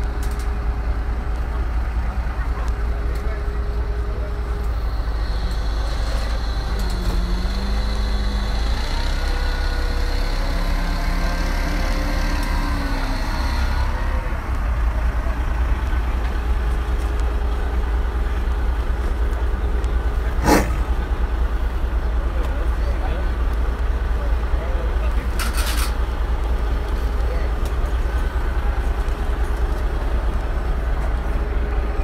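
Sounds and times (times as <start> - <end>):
truck engine rumbling: 0.0 - 32.0.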